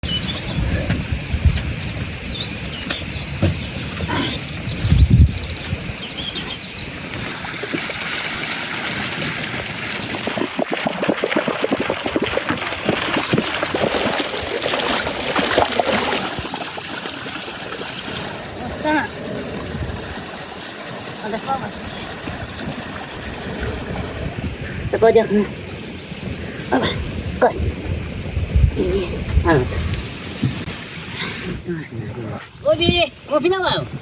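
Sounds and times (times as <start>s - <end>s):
water trickling and splashing: 0.2s - 34.0s.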